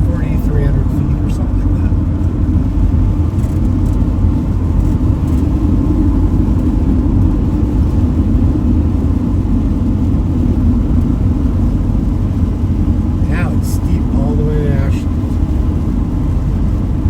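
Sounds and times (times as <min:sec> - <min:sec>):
engine and road noise rumble: 0:00.0 - 0:17.0.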